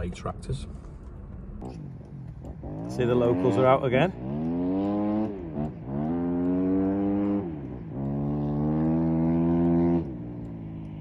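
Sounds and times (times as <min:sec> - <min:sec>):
engine accelerating through gears: 0:01.0 - 0:11.0.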